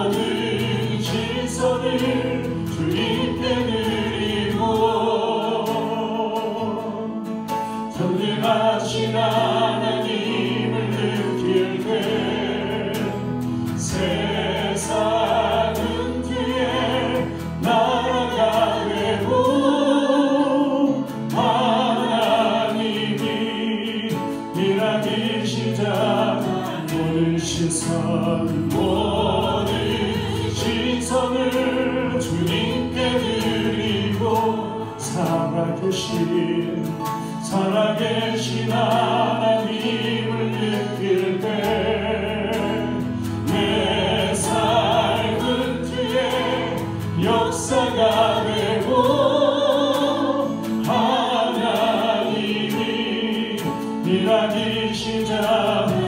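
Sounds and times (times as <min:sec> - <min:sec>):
choir singing a hymn: 0:00.0 - 0:56.0
instrumental accompaniment: 0:00.0 - 0:56.0.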